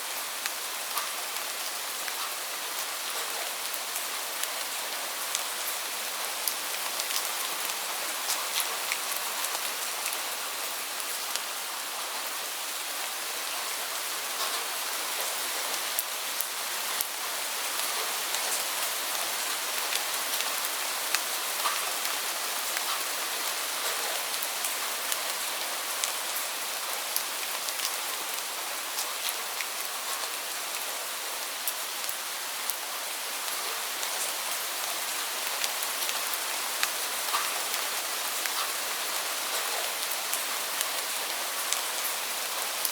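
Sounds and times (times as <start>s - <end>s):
heavy rain: 0.0s - 42.9s
raindrops pattering on a surface: 0.1s - 42.9s.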